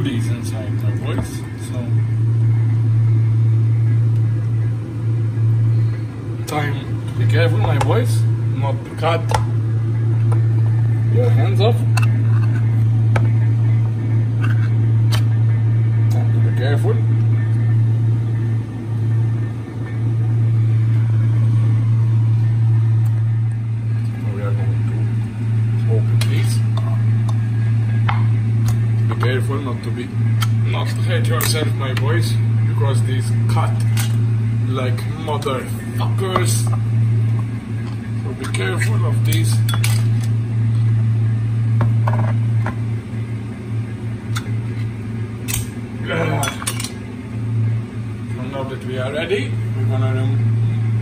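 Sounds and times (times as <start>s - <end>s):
weak rumble: 0.0s - 46.1s
loud low hum: 0.0s - 51.0s.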